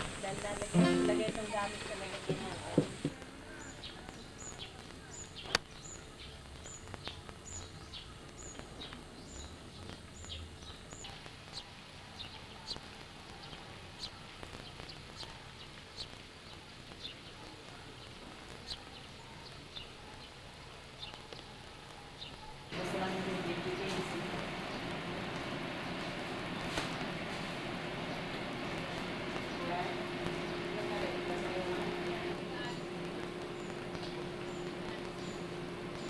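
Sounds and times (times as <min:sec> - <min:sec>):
birds chirping: 0:00.0 - 0:36.0
faint background noise: 0:00.0 - 0:36.0.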